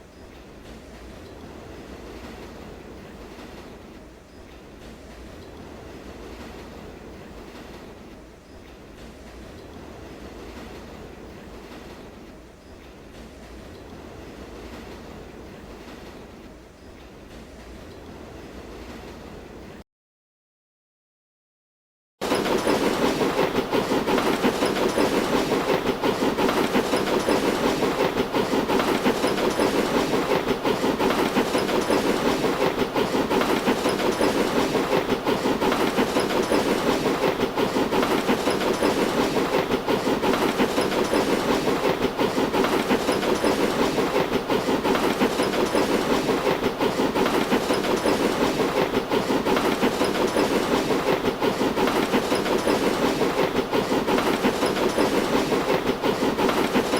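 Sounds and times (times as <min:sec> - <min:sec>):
train rumbling and rail clatter: 0:00.0 - 0:19.8, 0:22.2 - 0:56.9.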